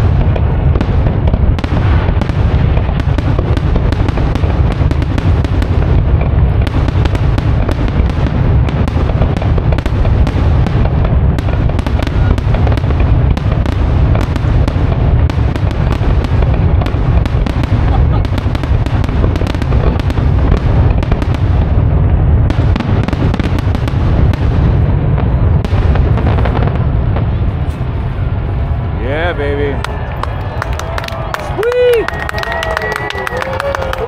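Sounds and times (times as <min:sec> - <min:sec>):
firework shells booming: 0:00.0 - 0:28.0
firework cracks and crackles: 0:00.0 - 0:34.0.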